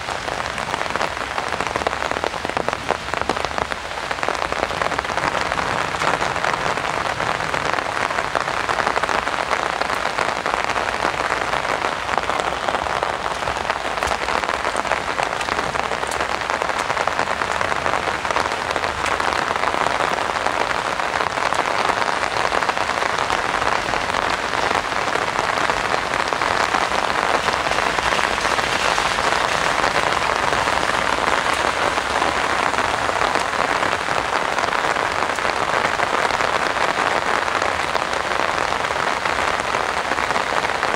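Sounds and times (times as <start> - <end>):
rain on an umbrella: 0.0 - 40.9.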